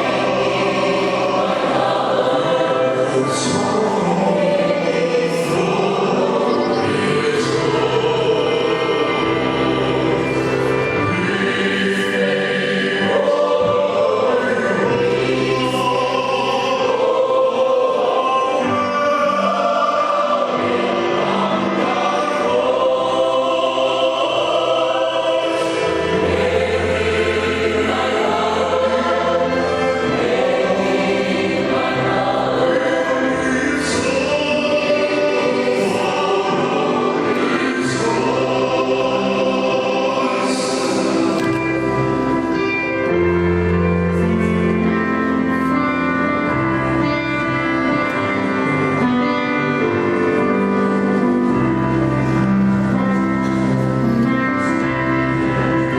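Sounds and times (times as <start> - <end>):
choir singing in harmony: 0.0 - 55.9.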